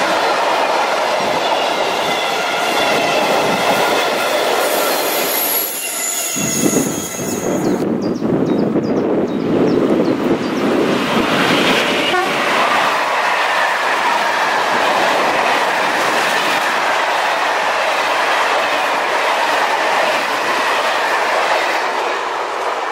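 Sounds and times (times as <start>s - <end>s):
train wheels rolling on rails: 0.0s - 22.9s.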